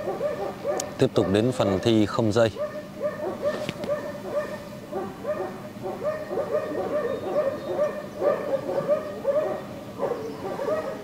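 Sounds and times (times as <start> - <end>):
dog yelping excitedly: 0.0 - 1.9, 2.5 - 11.0.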